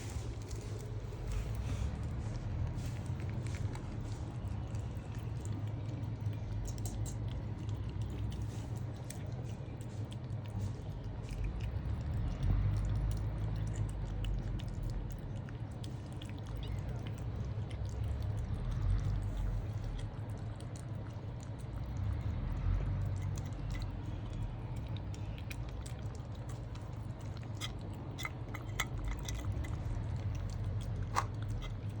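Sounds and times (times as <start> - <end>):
cats chewing and licking: 0.0 - 32.0
steady low hum: 0.0 - 32.0.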